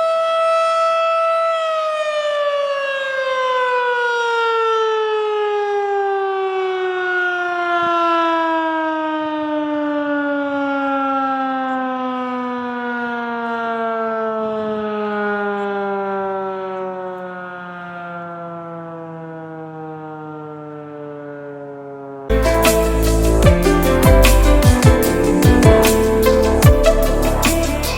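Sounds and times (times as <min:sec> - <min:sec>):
tornado siren winding down: 0:00.0 - 0:27.9.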